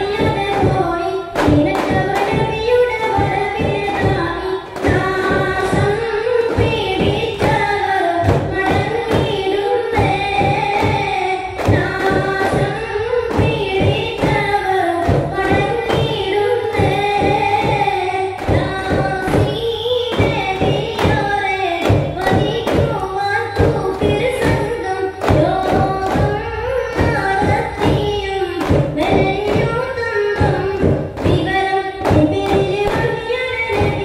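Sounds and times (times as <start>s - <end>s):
frame drums beating: 0.0s - 34.0s
voices singing: 0.0s - 34.0s.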